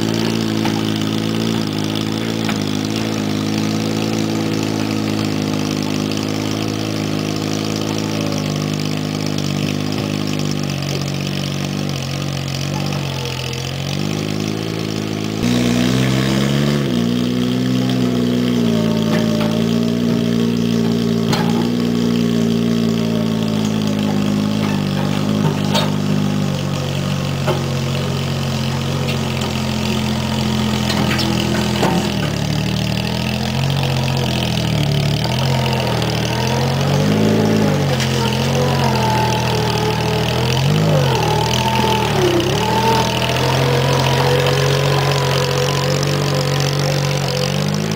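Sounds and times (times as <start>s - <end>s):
loader engine running: 0.0s - 47.9s.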